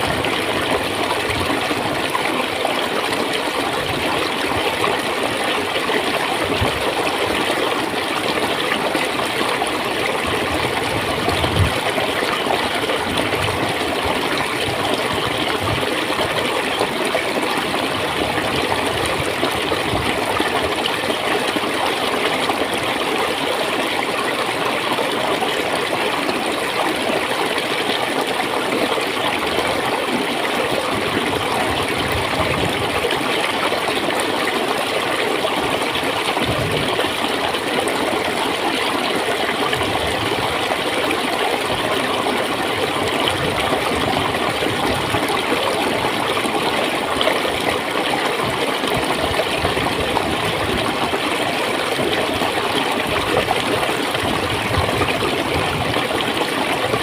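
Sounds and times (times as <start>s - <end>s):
running water gurgling: 0.0s - 57.0s.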